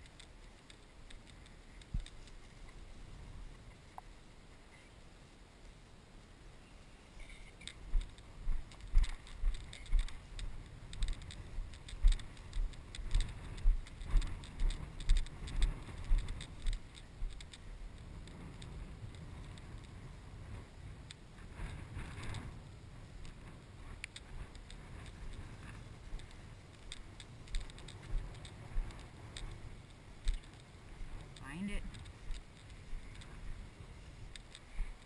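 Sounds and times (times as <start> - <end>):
grass rustling: 0.0 - 35.0.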